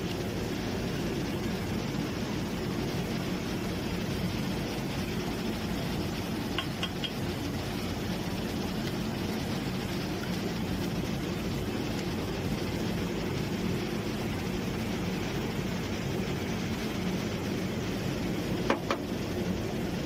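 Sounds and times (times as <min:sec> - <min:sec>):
steady rumbling noise: 0:00.0 - 0:20.0.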